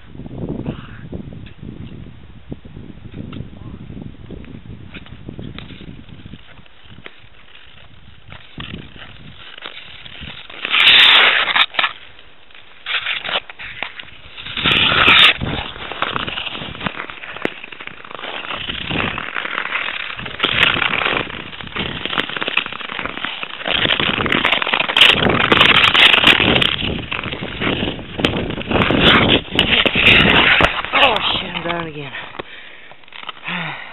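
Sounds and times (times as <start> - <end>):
skates scraping on ice: 4.9 - 33.9.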